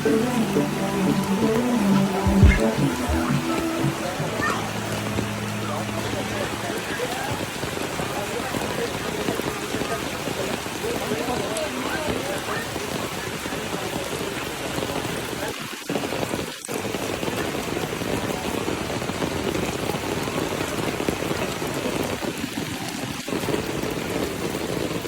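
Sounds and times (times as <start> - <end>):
falling water hiss and splash: 0.0 - 25.0.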